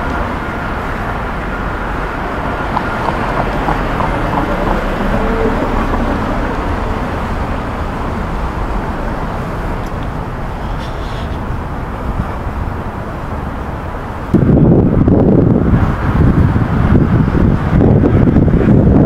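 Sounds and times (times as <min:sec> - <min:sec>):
passing cars rumbling: 0:00.0 - 0:19.0.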